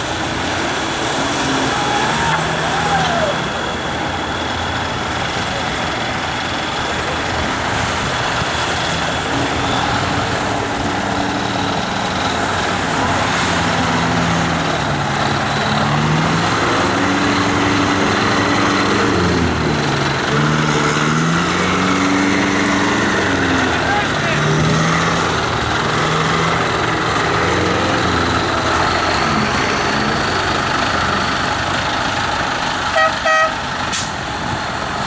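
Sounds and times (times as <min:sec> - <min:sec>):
engines revving: 0:00.0 - 0:35.0
spinning tyres churning water: 0:00.0 - 0:35.0.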